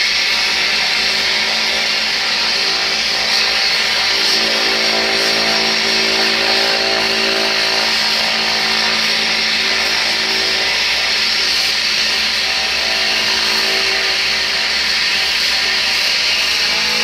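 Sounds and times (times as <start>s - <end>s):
propeller drone: 0.0s - 17.0s
turboprop engine whine: 0.0s - 17.0s.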